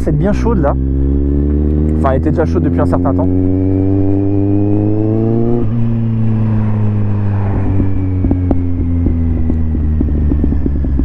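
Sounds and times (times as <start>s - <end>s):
exhaust crackles: 0.0s - 11.0s
motorcycle engine accelerating: 0.0s - 11.0s.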